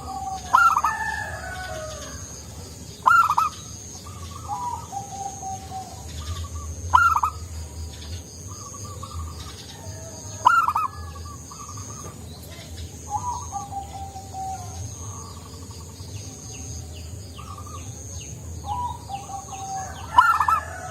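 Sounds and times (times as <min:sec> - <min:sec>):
dove cooing: 0:00.0 - 0:16.0, 0:17.4 - 0:20.9.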